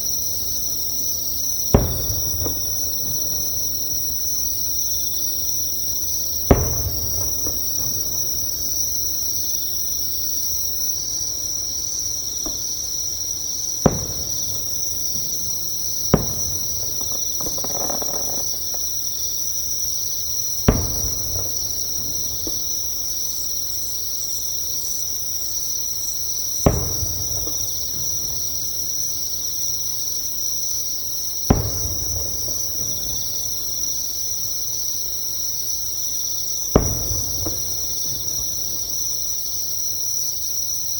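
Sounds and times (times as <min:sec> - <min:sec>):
distant fireworks bursting: 0:00.0 - 0:23.4, 0:26.6 - 0:29.6, 0:31.4 - 0:34.3, 0:36.6 - 0:40.7
insects trilling: 0:00.0 - 0:40.9.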